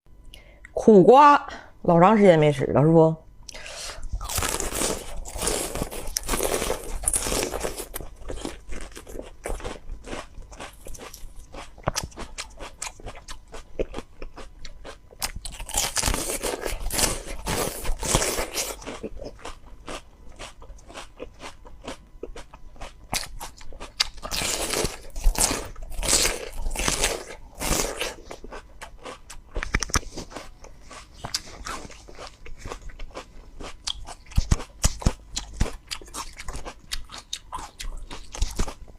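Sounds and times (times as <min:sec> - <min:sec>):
crunchy vegetable being chewed: 0:03.5 - 0:38.9.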